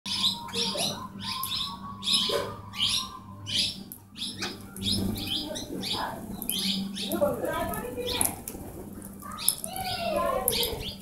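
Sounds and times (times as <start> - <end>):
parakeets calling: 0.1 - 11.0.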